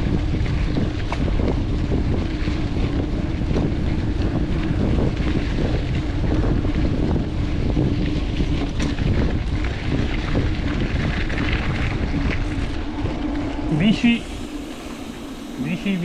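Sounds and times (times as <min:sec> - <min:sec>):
bike rattles and clicks: 0:00.0 - 0:16.0
rolling tyre noise: 0:00.0 - 0:16.0
steady low hum: 0:00.0 - 0:16.0
wind buffeting microphone: 0:00.0 - 0:16.0.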